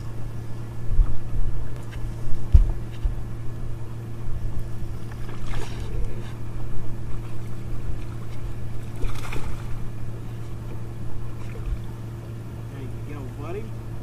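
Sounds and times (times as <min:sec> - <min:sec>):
boat motor hum: 0:00.0 - 0:14.0.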